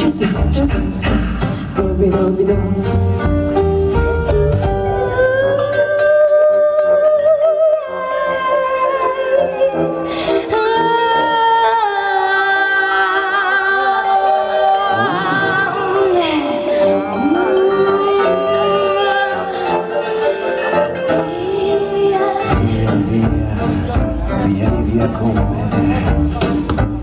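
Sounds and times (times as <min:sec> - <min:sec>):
live band playing: 0:00.0 - 0:27.0
wavering lead melody: 0:00.0 - 0:27.0.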